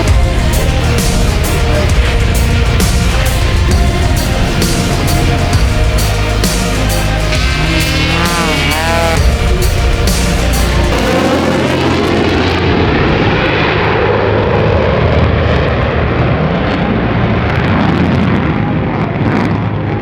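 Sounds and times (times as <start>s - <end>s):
plane engine roar: 0.0s - 20.0s.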